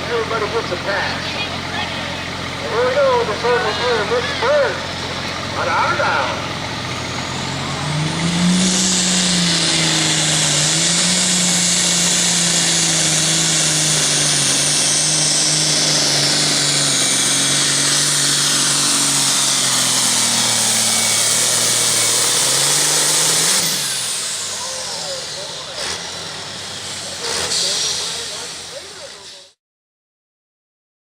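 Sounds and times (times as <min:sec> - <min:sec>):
loud high whine: 0:00.0 - 0:29.5
diesel tractor engine at full throttle: 0:00.0 - 0:29.6.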